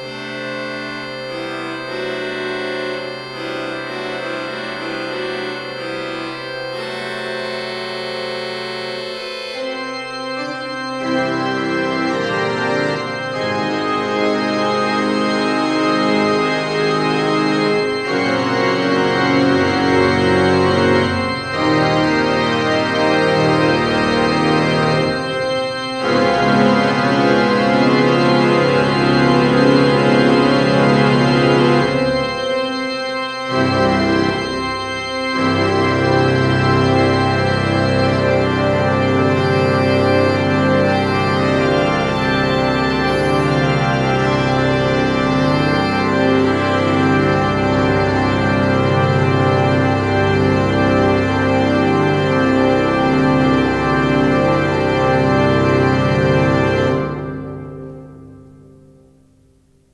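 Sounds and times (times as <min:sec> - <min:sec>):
church organ playing chords: 0:00.0 - 0:59.1.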